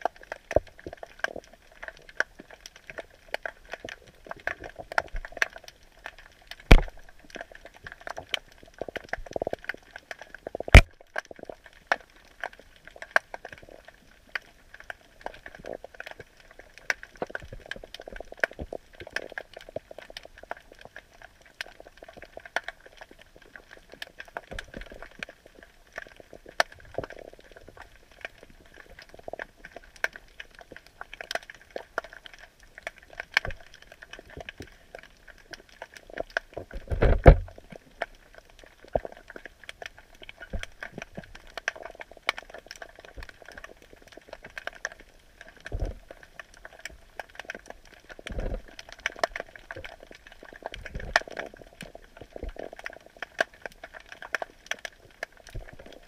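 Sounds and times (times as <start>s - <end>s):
underwater crackling and clicking: 0.0s - 56.0s.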